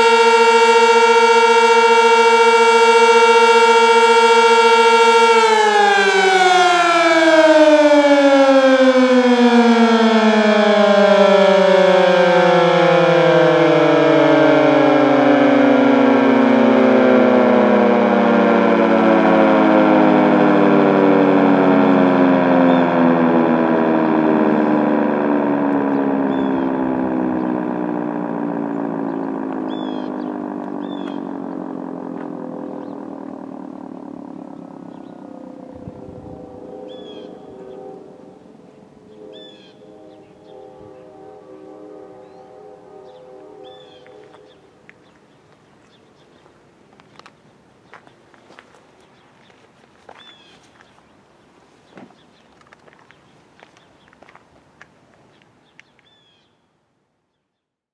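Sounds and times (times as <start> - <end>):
tornado siren: 0.0 - 47.3, 48.0 - 51.0, 52.0 - 54.8.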